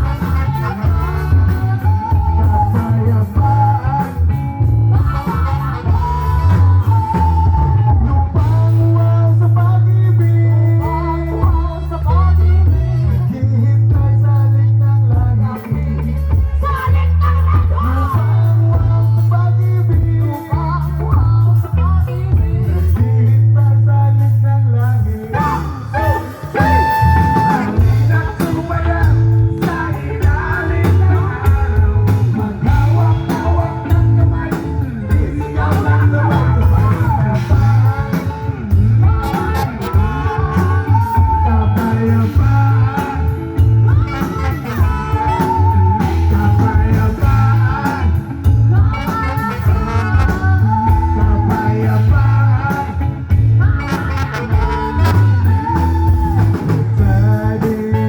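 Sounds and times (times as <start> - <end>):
electric guitar: 0.0 - 58.0
heavy bass line: 0.0 - 58.0
rock band playing: 0.0 - 58.0.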